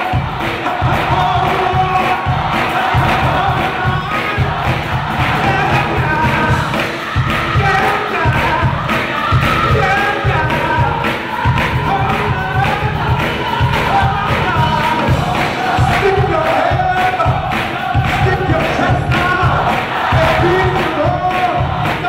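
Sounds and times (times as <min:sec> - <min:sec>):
gospel choir singing: 0:00.0 - 0:22.0
steady driving beat: 0:00.0 - 0:22.0.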